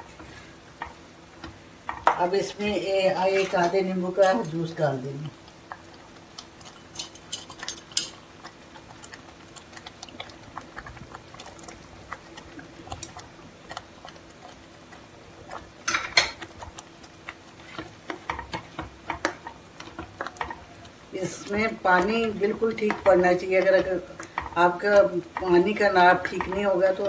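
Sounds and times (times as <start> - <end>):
faint steady hum: 0.0 - 27.0
mixture bubbling in a pan: 0.0 - 27.0.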